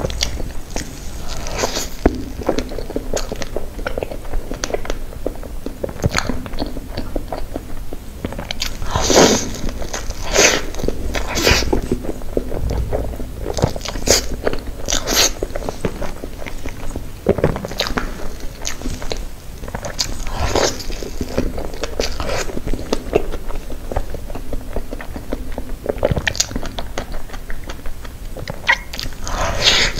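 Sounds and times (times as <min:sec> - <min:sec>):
soft chewing: 0:00.0 - 0:14.3, 0:15.2 - 0:29.9.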